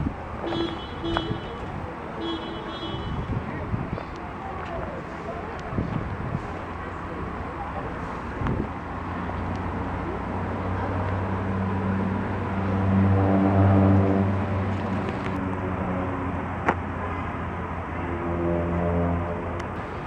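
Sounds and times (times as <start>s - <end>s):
large vehicle engine running: 0.0s - 20.0s.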